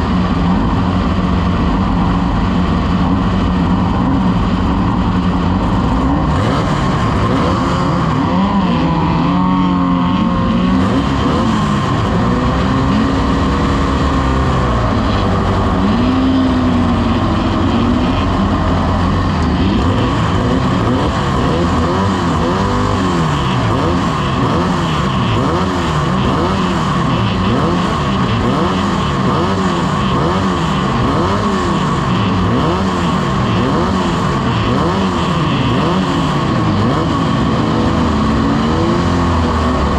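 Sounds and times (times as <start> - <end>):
vehicle engines revving: 0.0 - 39.9.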